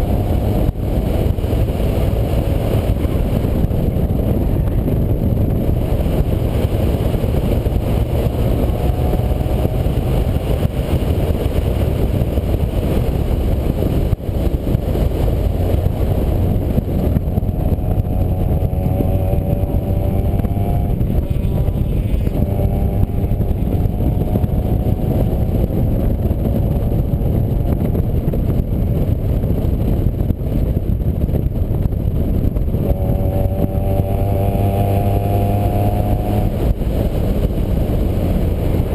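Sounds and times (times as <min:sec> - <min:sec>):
heavy low rumble: 0:00.0 - 0:38.9
vehicle engine running: 0:00.0 - 0:38.9.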